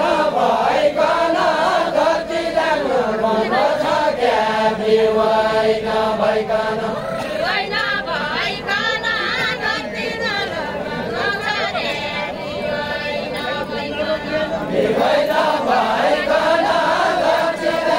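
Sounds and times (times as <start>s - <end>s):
group singing folk song: 0.0s - 17.9s.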